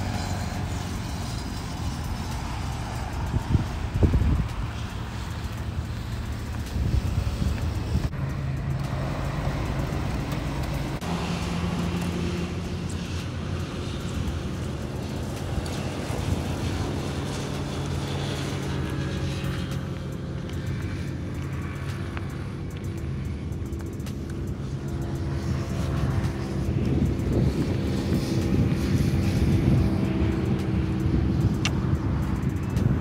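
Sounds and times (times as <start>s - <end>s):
motor scooter engine hum: 0.0s - 33.0s
road traffic: 0.0s - 33.0s.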